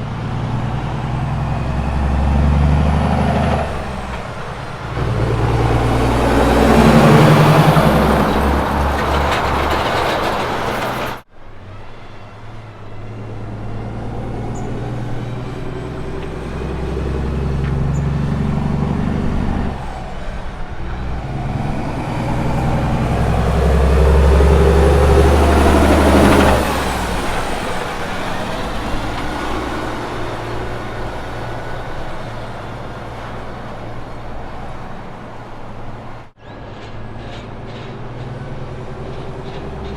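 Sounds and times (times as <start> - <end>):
truck diesel engines passing: 0.0 - 39.9.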